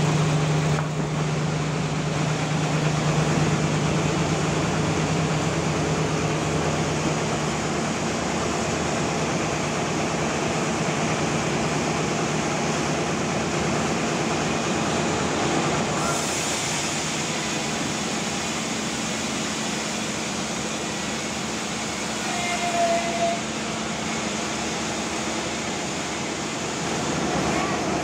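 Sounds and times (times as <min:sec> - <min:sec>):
sawmill droning: 0:00.0 - 0:28.0.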